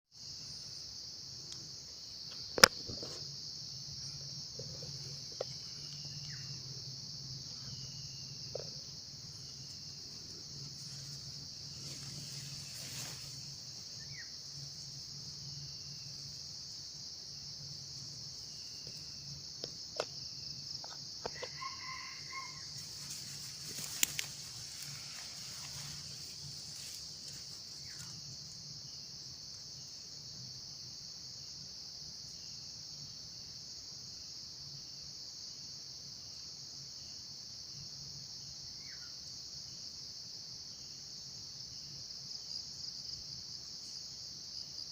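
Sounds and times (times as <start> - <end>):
insects droning: 0.1 - 44.9.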